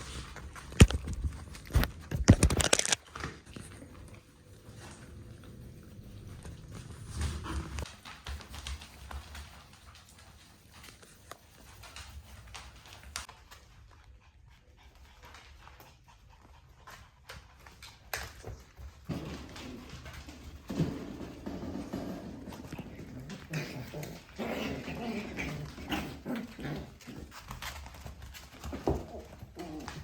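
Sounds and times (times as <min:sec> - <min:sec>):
puppies scuffling and pawing: 0:00.0 - 0:30.0.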